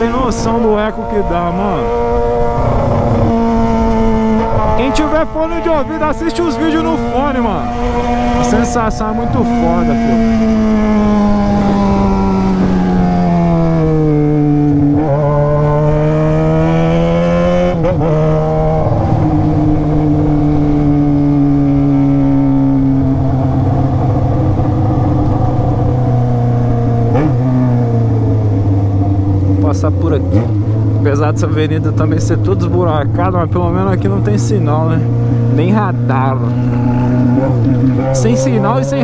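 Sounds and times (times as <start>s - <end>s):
motorcycle engine with straight-pipe exhaust: 0.0s - 5.4s, 6.9s - 39.0s.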